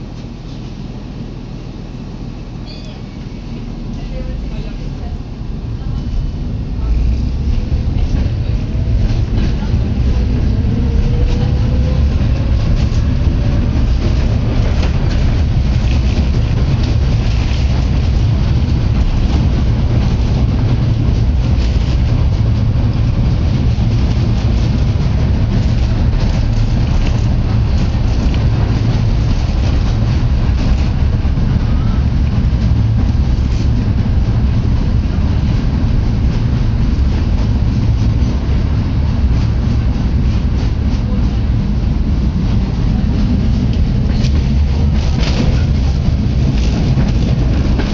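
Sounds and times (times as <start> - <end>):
vehicle rumbling in motion: 0.0 - 47.9.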